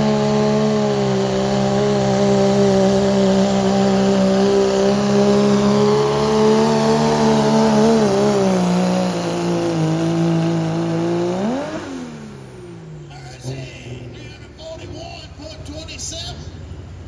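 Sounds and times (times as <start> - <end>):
diesel truck engine at full throttle: 0.0 - 17.0.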